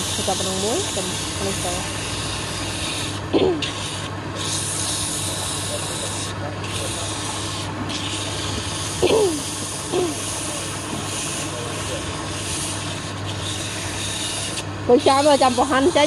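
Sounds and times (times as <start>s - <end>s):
woodworking machine rasping wood: 0.0s - 16.0s.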